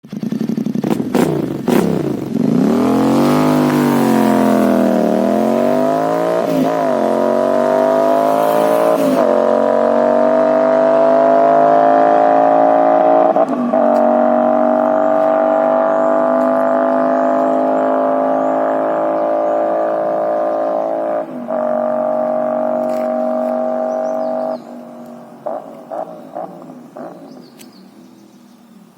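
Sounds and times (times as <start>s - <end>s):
motorcycle engine revving: 0.0s - 28.8s.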